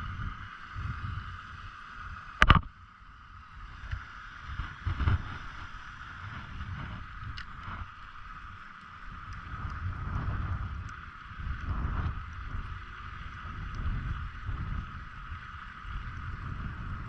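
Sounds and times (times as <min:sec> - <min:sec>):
low irregular rumble: 0:00.0 - 0:17.0
steady high hum: 0:00.0 - 0:17.0.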